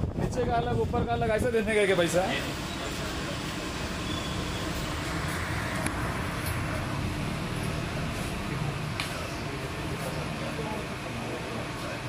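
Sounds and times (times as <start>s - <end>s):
road traffic engine hum: 1.6s - 12.0s.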